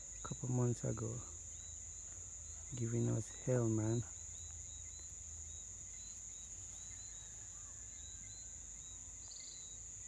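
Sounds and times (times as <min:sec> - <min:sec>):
crickets droning: 0:00.0 - 0:10.0
short insect chirps: 0:00.0 - 0:10.0.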